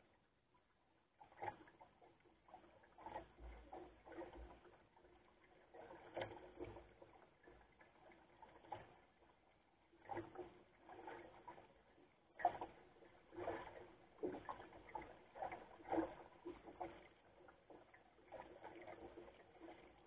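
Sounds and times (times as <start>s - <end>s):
water splashing against hull: 1.1s - 20.0s.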